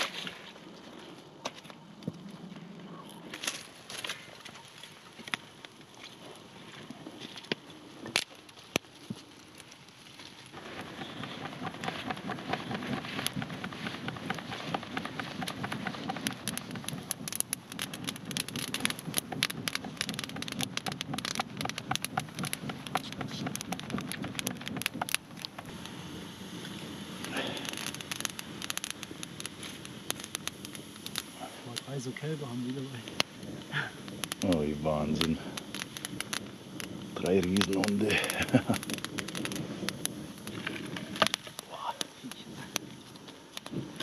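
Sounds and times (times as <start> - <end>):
campfire crackling and popping: 0.0 - 44.0
fire hissing: 0.0 - 44.0.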